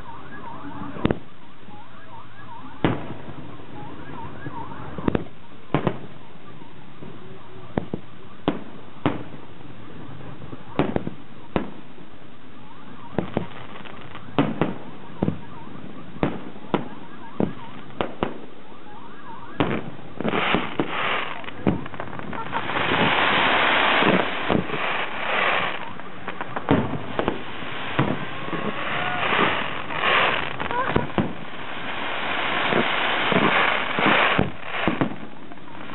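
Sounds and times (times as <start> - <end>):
fireworks bursting: 0.8 - 1.8, 2.8 - 6.3, 7.0 - 12.1, 13.0 - 18.7, 19.6 - 35.9.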